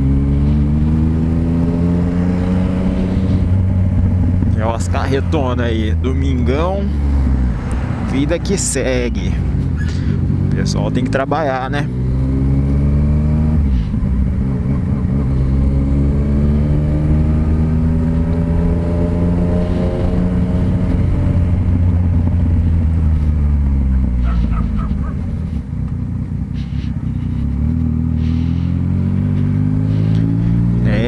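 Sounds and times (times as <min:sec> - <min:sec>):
motorcycle engine through open exhaust: 0:00.0 - 0:07.0, 0:09.0 - 0:31.0.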